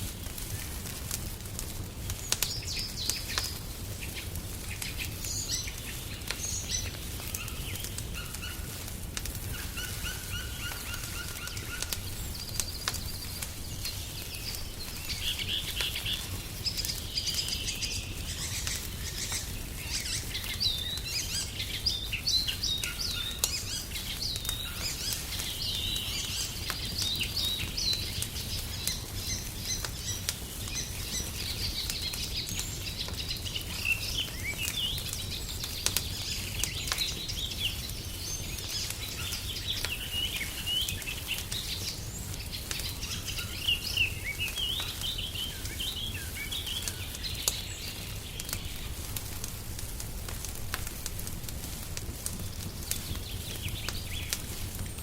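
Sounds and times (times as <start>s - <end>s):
wood fire crackling: 0.0s - 55.0s
songbirds chirping and singing: 2.1s - 8.8s, 9.4s - 49.8s, 52.3s - 55.0s.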